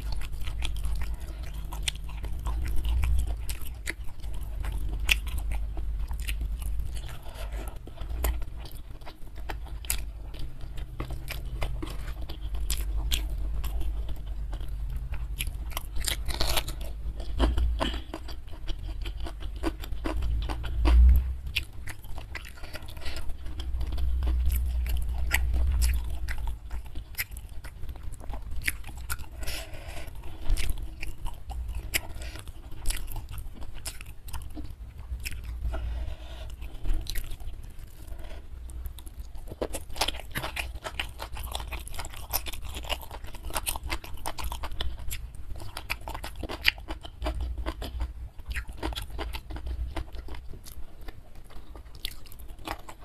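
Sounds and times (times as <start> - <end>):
chewing and crunching food: 0.0 - 53.0.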